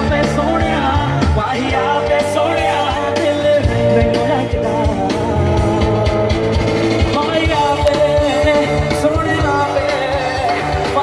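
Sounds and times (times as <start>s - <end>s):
person singing: 0.0s - 6.5s, 7.1s - 11.0s
electric guitar: 0.0s - 11.0s
live rock band: 0.0s - 11.0s
steady drum beat: 0.0s - 11.0s.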